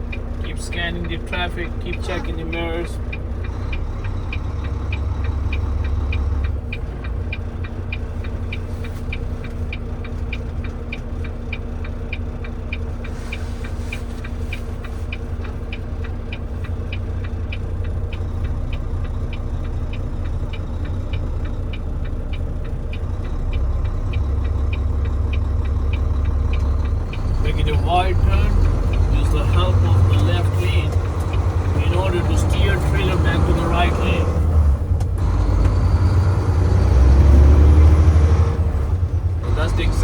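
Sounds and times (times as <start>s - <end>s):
diesel engine hum: 0.0s - 40.0s
turn signal ticking: 0.0s - 40.0s.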